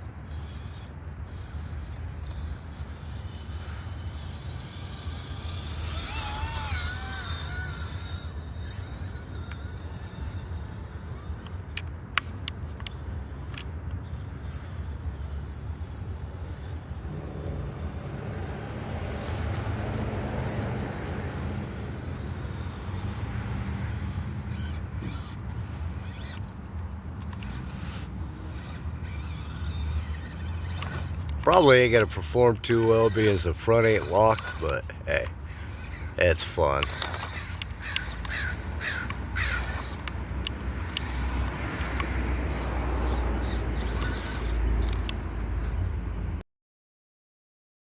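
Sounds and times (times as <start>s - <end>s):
electric motor whine: 0.0s - 46.0s.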